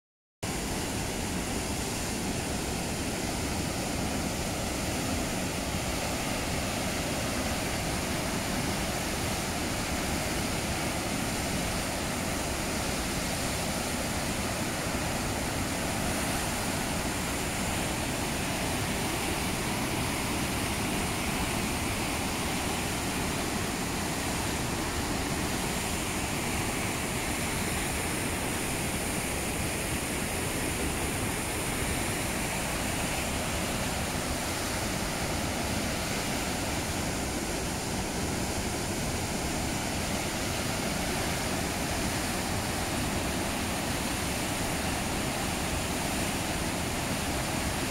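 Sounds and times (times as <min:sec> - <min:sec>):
rapids rushing over rocks: 0:00.4 - 0:47.9.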